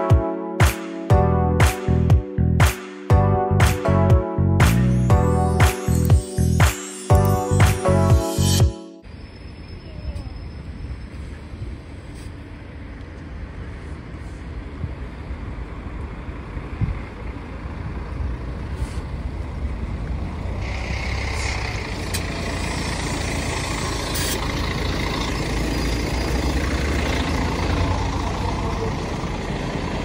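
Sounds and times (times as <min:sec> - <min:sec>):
bus engine rumble: 0:04.8 - 0:30.0.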